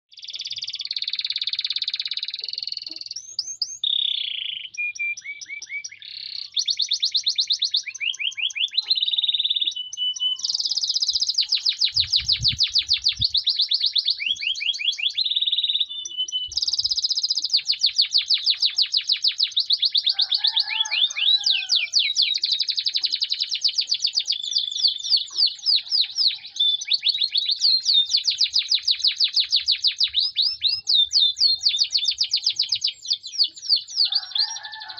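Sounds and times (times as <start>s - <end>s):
songbird trilling: 0.1s - 34.9s.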